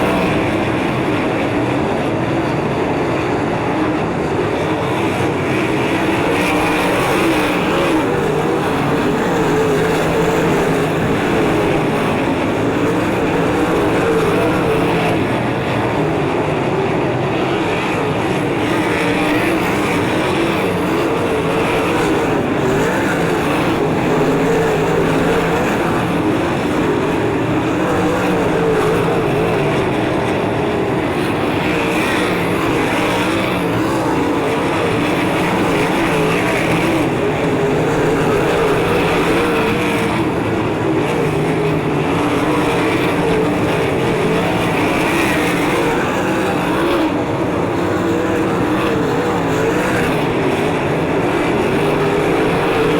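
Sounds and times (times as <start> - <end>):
race car engines at high revs: 0.0 - 52.9.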